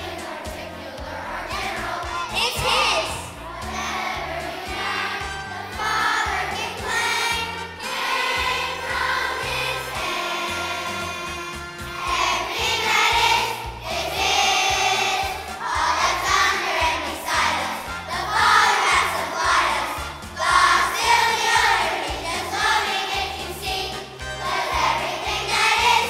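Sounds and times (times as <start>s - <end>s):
children's choir singing: 0.0s - 26.0s
instrumental accompaniment: 0.0s - 26.0s.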